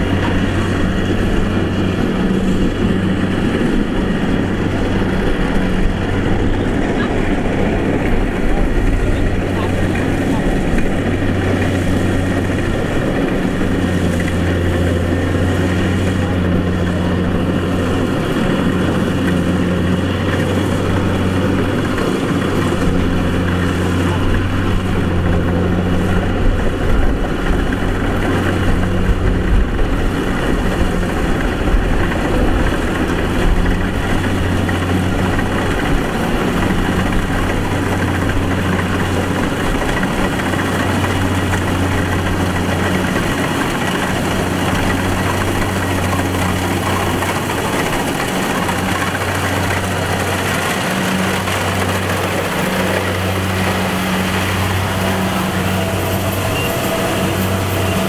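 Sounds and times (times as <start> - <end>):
combine harvester engine and threshing: 0.0 - 58.0.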